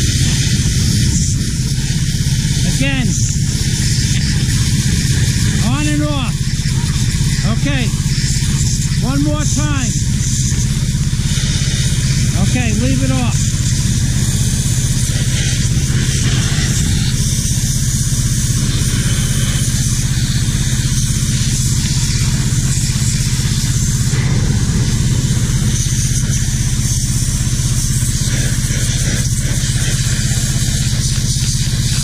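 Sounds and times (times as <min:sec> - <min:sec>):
pressure washer humming: 0:00.0 - 0:32.0.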